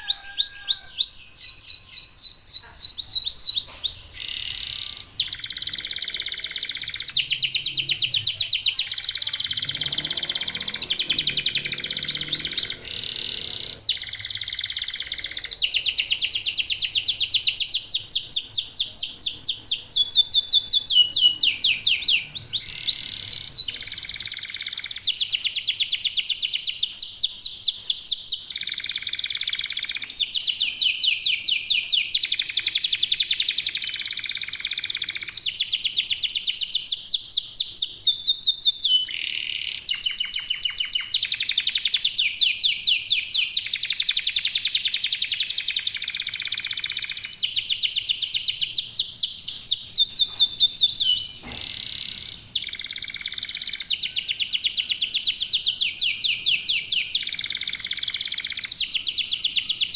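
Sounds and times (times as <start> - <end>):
canaries singing trills: 0.0 - 59.9.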